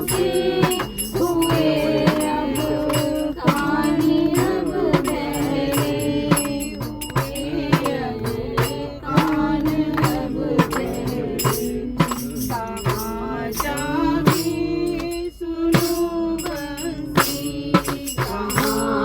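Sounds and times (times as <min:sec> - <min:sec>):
percussion beat of sharp strikes: 0:00.0 - 0:19.0
voices singing devotional song: 0:00.0 - 0:19.0.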